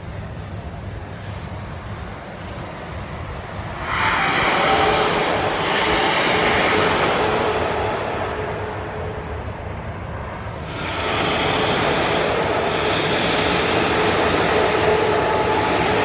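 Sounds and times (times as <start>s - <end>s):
loud droning blare: 0.0s - 16.0s
low outdoor rumble: 0.0s - 16.0s.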